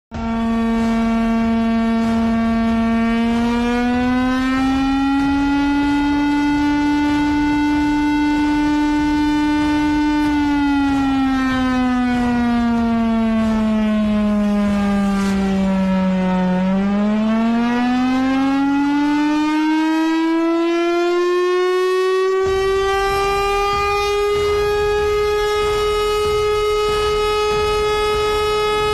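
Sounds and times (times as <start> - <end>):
air-raid siren wailing: 0.1 - 28.9.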